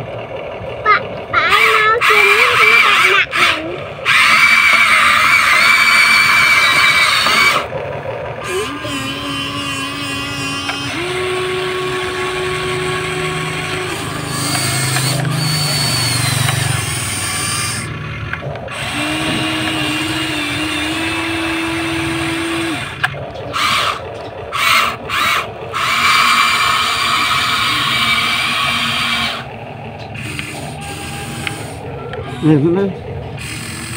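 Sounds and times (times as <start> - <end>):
toy excavator motors whining: 0.8 - 33.9.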